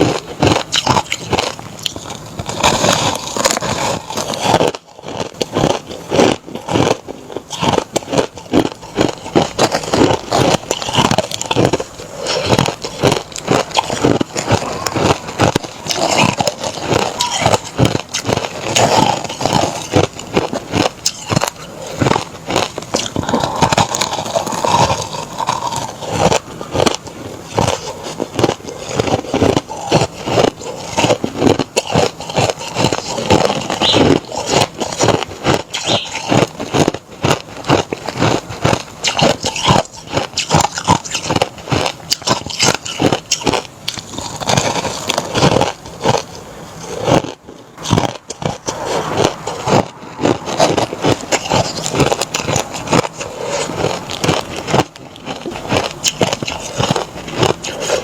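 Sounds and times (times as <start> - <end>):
person chewing crushed ice: 0.0 - 58.0.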